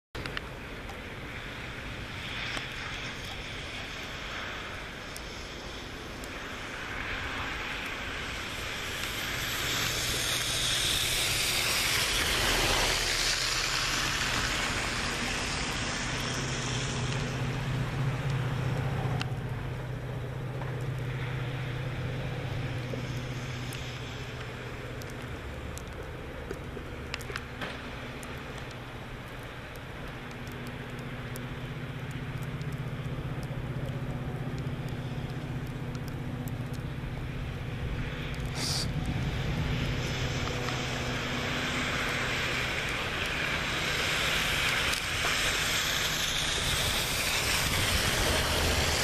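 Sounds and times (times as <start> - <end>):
distant train humming: 0.2 - 49.0
storm wind: 0.2 - 49.0.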